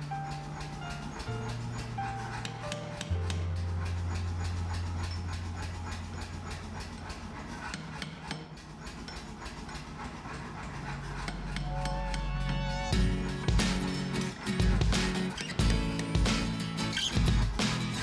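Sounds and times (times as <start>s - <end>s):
rapid hammer blows on metal: 0.0s - 18.0s.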